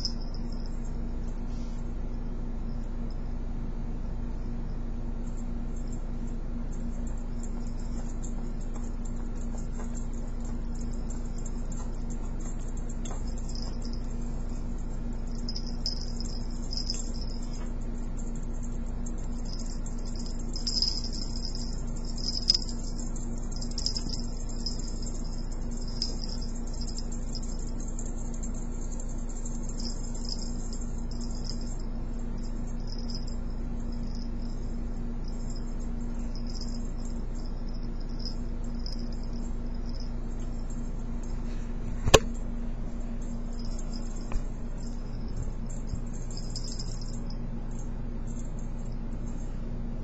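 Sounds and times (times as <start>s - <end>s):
small bell jingling: 0.0s - 1.8s, 5.3s - 49.6s
low electrical hum: 0.0s - 50.0s.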